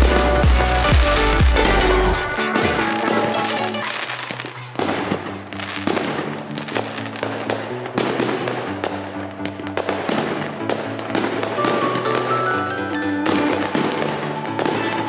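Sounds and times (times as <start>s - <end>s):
music with long held notes: 0.0s - 4.3s, 4.9s - 15.0s.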